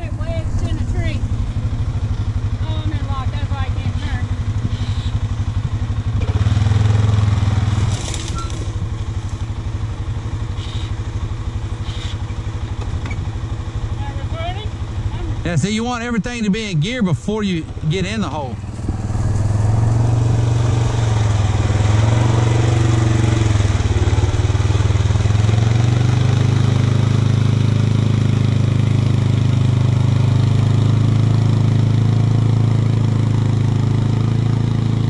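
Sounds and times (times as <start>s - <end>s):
atv engine running: 0.0s - 35.0s.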